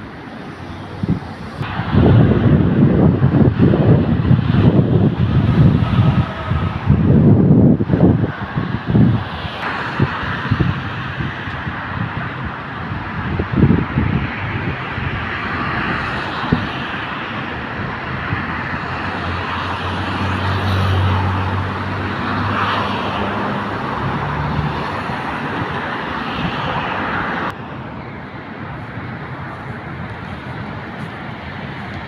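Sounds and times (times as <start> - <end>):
traffic rumble and hiss: 0.0 - 32.0
vehicle engine humming: 0.0 - 32.0.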